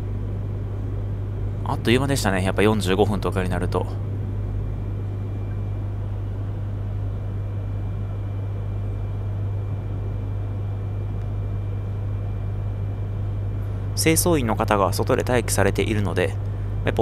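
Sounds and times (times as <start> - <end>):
train cabin hum: 0.0 - 17.0.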